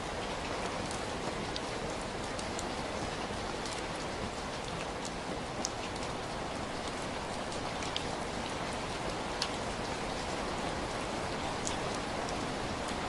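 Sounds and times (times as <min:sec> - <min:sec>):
raindrop ticks: 0:00.2 - 0:10.3, 0:11.5 - 0:13.0.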